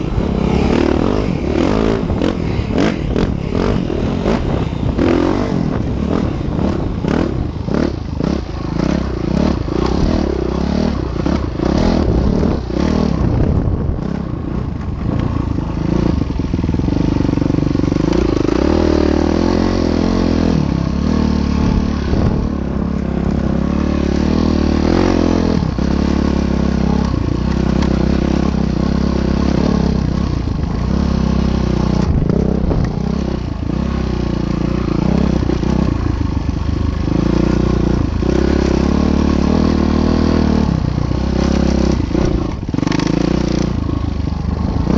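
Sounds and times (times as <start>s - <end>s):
locomotive engine drone: 0.0s - 44.9s.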